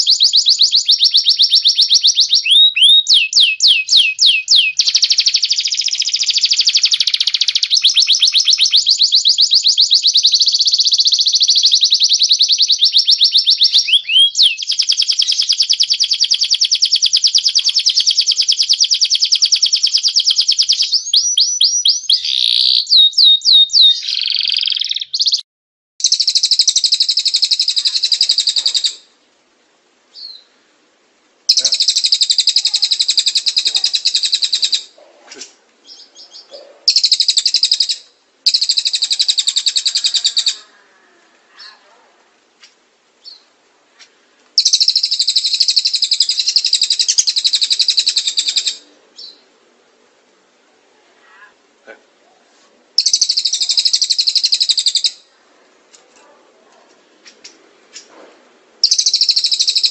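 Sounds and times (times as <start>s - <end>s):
birds singing fast trills: 0.0s - 25.4s, 26.0s - 29.1s, 30.1s - 30.6s, 31.5s - 40.7s, 43.2s - 49.5s, 53.0s - 55.3s, 58.8s - 59.9s.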